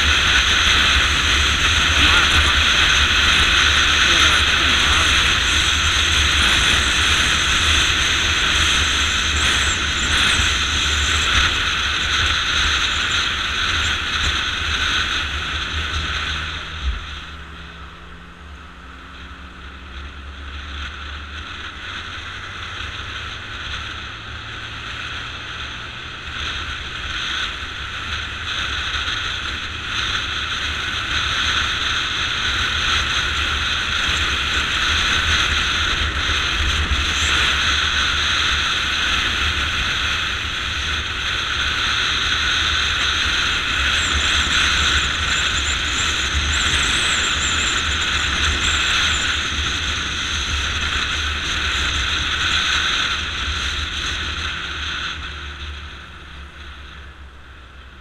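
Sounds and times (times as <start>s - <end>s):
motorcycle engine: 0.0s - 58.0s
wind rushing over microphone: 0.0s - 58.0s.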